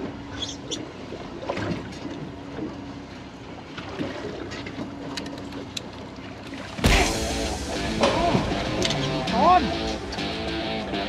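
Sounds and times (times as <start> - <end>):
boat motor running: 0.0 - 11.0
water noise: 0.0 - 11.0
wind: 0.0 - 11.0.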